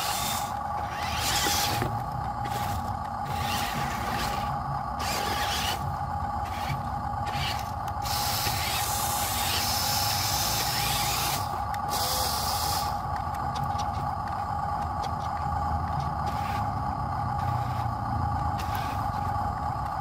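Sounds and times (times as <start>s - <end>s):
toy truck electric motor whining: 0.0s - 20.0s
wheels churning through mud: 0.0s - 20.0s.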